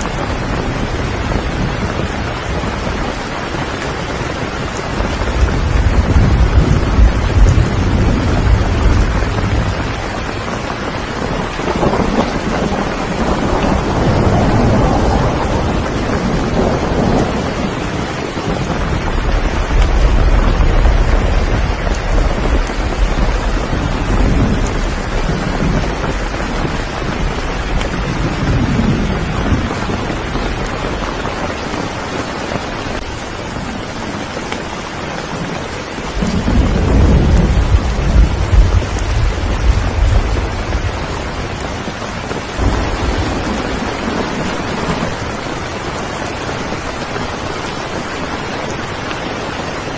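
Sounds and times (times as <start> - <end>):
heavy rain: 0.0 - 49.9
thunder rumbling: 0.0 - 49.9.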